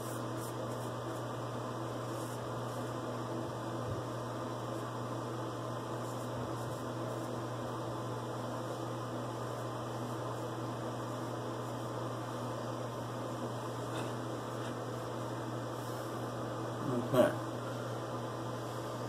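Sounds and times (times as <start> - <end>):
steady low hum with hiss: 0.0 - 19.0.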